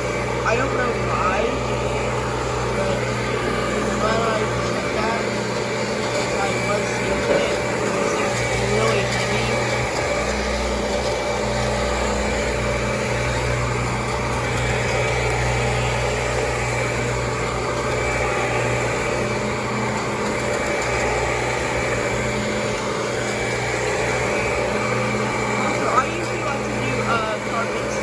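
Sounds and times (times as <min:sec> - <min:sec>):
upright vacuum cleaner running: 0:00.0 - 0:28.0.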